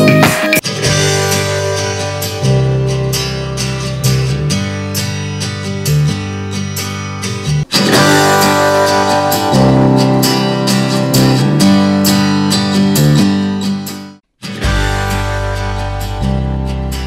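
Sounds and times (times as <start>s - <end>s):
guitar song through speakers: 0.0s - 17.0s.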